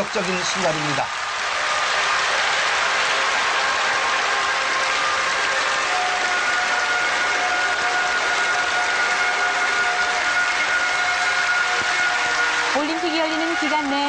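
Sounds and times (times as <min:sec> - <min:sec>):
stadium crowd cheering: 0:00.0 - 0:14.0
faint steady tones: 0:01.6 - 0:14.0.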